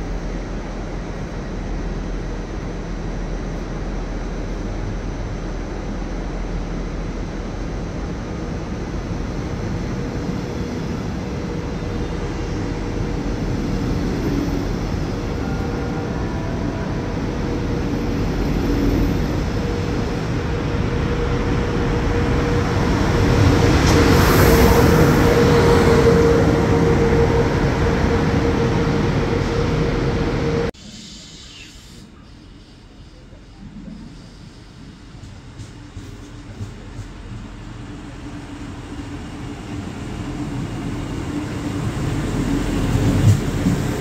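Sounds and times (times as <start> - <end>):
train wheels rumbling on rail: 0.0 - 30.8, 32.1 - 44.0
train whine: 0.0 - 44.0.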